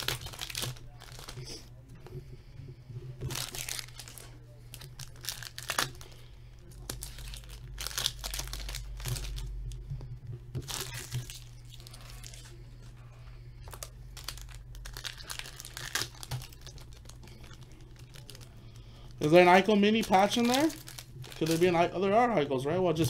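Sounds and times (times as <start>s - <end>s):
foil wrapper crinkling and tearing: 0.0s - 1.6s, 3.2s - 9.8s, 10.6s - 12.6s, 13.6s - 22.2s
steady low hum: 0.0s - 23.0s.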